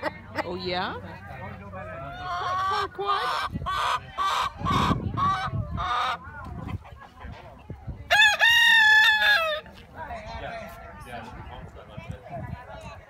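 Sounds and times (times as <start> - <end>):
chickens clucking: 0.0 - 11.7.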